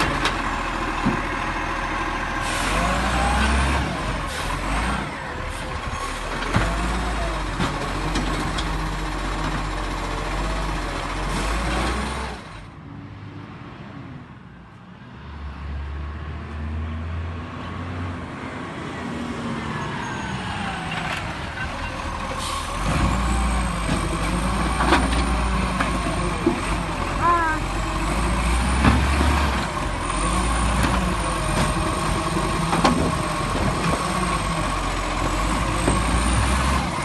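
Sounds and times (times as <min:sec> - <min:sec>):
garbage truck diesel engine: 0:00.0 - 0:12.8, 0:18.2 - 0:37.0.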